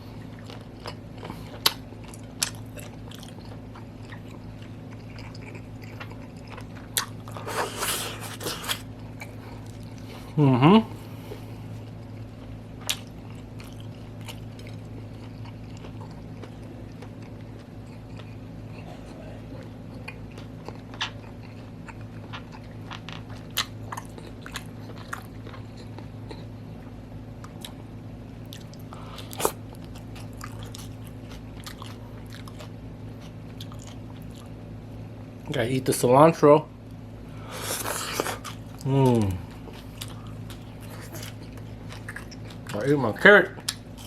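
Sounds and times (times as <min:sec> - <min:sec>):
steady low hum: 0:00.0 - 0:44.0
wet chewing with crunchy clicks: 0:00.2 - 0:10.1, 0:11.8 - 0:18.9, 0:19.5 - 0:27.8, 0:28.4 - 0:34.6, 0:37.6 - 0:44.0.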